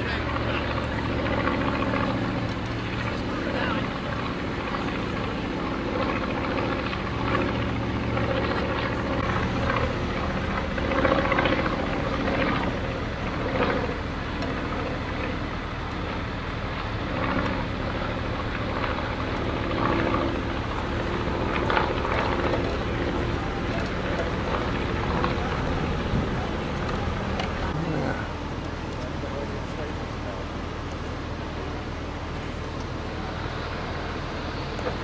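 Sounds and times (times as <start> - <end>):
biplane engine flying overhead: 0.0 - 35.0.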